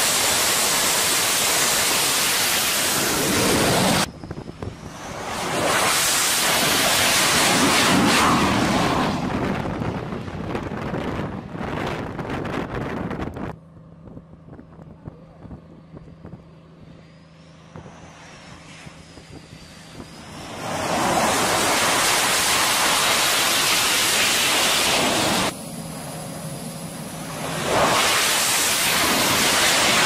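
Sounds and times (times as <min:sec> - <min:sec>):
loud jet roar: 0:00.0 - 0:13.2, 0:16.8 - 0:30.0
jet engine hum with faint whine: 0:00.0 - 0:30.0.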